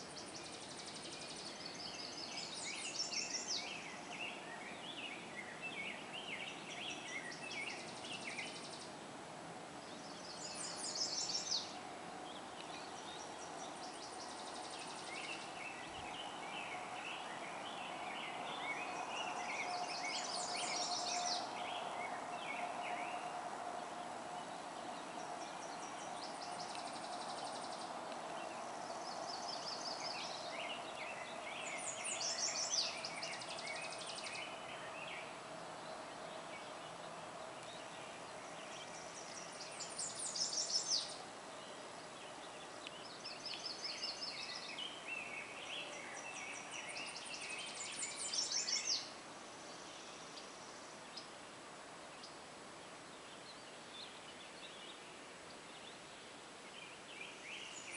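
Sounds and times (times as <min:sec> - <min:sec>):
birds chirping: 0:00.0 - 0:09.0, 0:09.8 - 0:57.9
distant traffic hum: 0:02.4 - 0:52.7.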